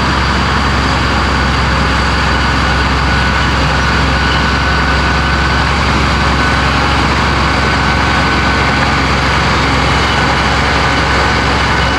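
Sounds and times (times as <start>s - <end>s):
bulldozer diesel engine running: 0.0s - 11.9s.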